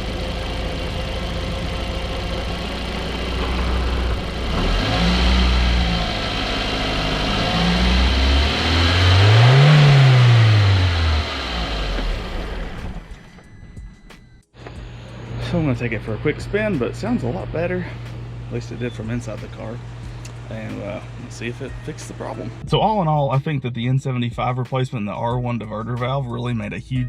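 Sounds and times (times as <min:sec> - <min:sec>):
car engine idling and revving: 0:00.0 - 0:22.8.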